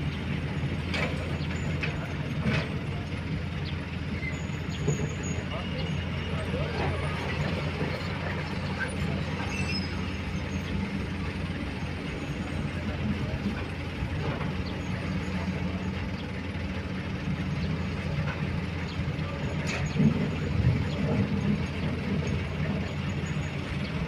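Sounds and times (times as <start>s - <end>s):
dump truck driving over dirt: 0.0s - 24.0s
excavator working: 0.0s - 24.0s.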